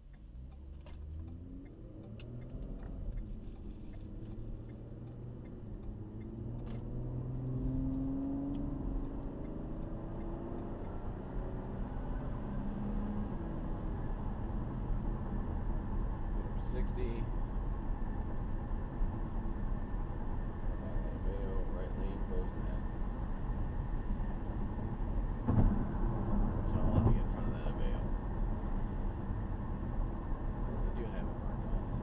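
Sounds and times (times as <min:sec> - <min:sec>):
car engine accelerating: 0:00.0 - 0:32.0
low road rumble: 0:00.0 - 0:32.0.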